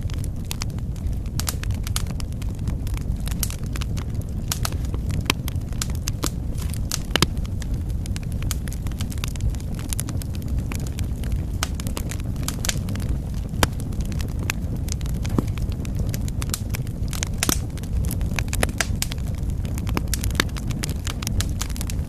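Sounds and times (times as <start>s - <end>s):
burning logs crackling and popping: 0.0s - 22.0s
fire flames rumbling: 0.0s - 22.0s.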